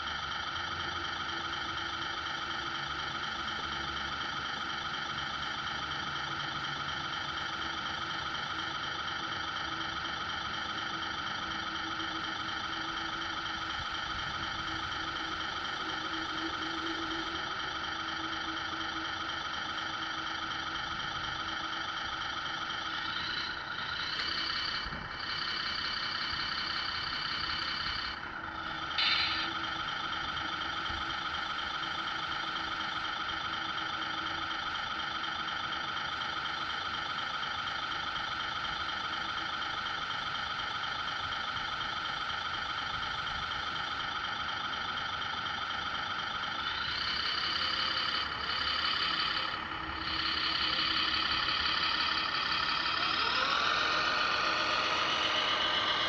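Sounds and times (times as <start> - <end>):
electronic diesel truck engine idling: 0.0 - 56.0.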